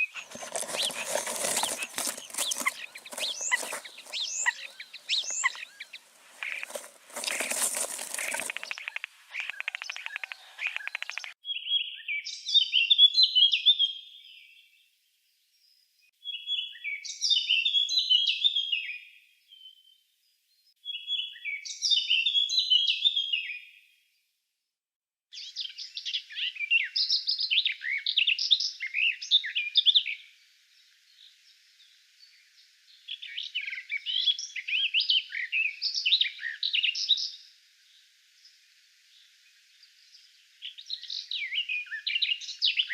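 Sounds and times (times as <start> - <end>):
bird song: 0.0 - 24.3, 25.3 - 42.9.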